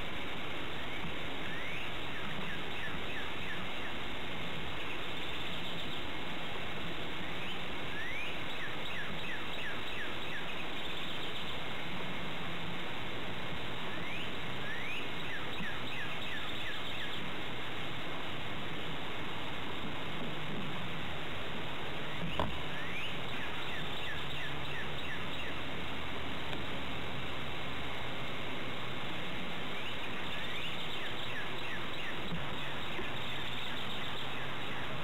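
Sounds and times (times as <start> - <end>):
songbird singing: 0.0 - 35.0
steady hiss: 0.0 - 35.0.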